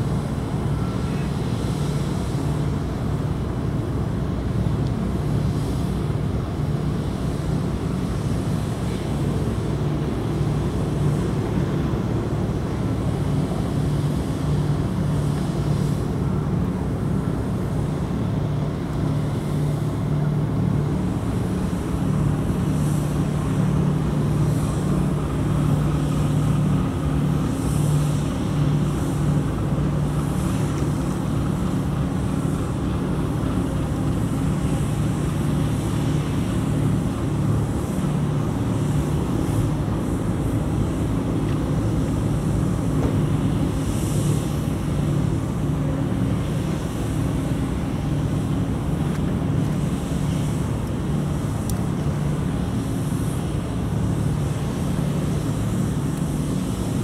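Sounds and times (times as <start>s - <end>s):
large engine droning: 0.0s - 57.0s
wash of noise: 0.0s - 57.0s.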